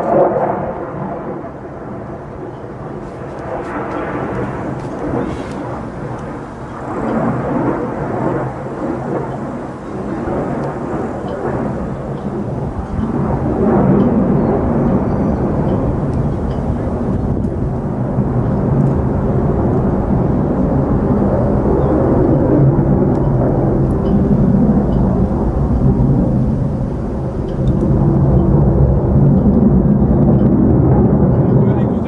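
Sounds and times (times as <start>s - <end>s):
jet engine roar: 0.0s - 32.0s.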